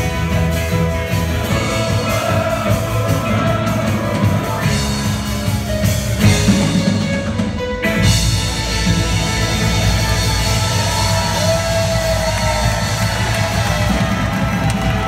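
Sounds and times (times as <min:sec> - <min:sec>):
live rock and roll band: 0:00.0 - 0:15.0.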